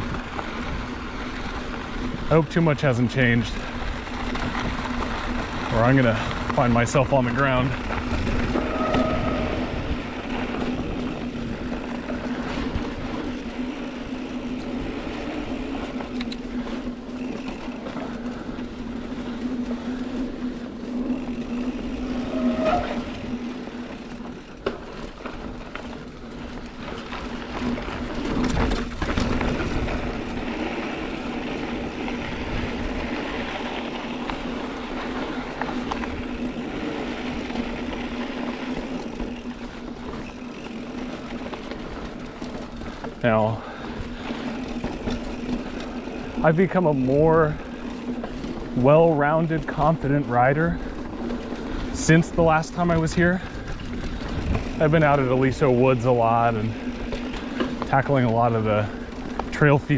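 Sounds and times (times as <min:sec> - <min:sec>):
bike tyres on dirt trail: 0:00.0 - 0:59.9.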